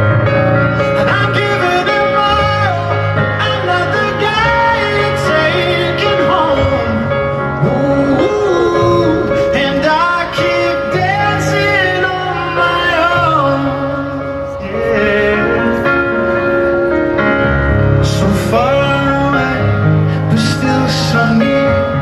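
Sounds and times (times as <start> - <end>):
man singing pop ballad: 0.7 - 16.8, 17.8 - 22.0.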